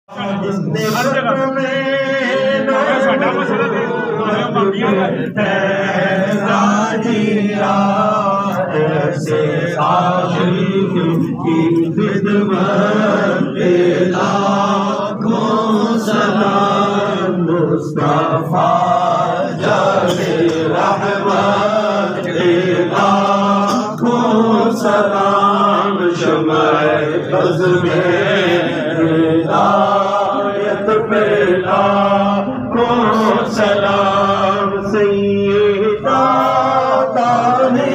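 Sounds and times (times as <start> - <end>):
crowd of men chanting: 0.2 - 37.9.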